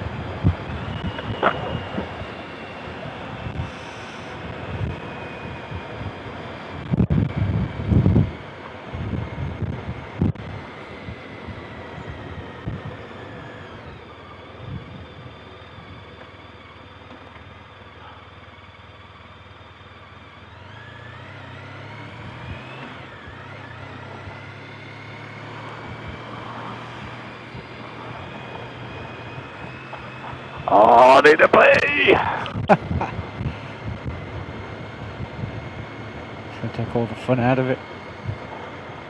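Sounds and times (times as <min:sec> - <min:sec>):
motorcycle engine: 0:00.0 - 0:39.0.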